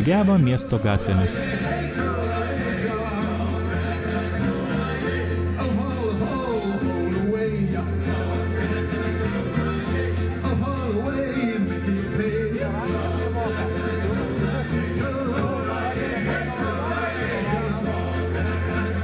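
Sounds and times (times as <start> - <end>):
song with singing and guitar: 0.0 - 19.0.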